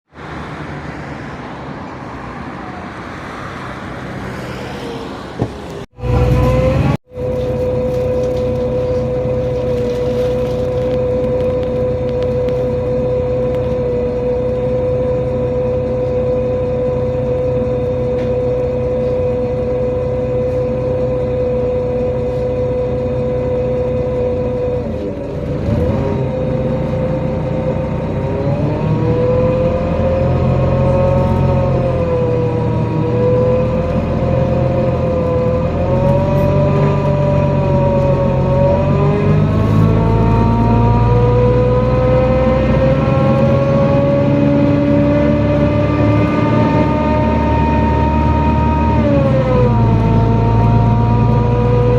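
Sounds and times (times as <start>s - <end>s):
bus drivetrain rumble and whine: 0.1s - 51.9s.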